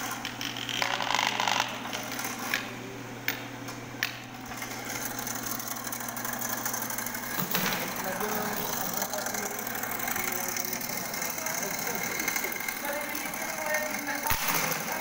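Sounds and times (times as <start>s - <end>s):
drain cleaning machine motor hum: 0.0s - 15.0s.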